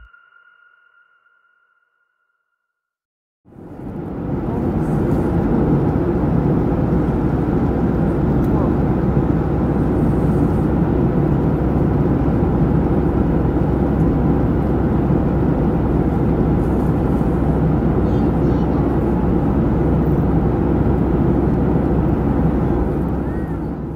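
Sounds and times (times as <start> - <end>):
airliner cabin jet engine rush: 3.5 - 23.9.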